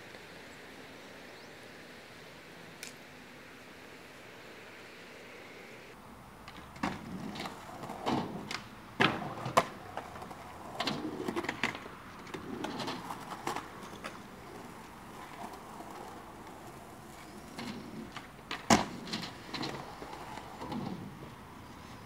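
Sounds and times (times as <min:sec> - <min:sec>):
skateboard wheels rolling: 0:00.0 - 0:22.0.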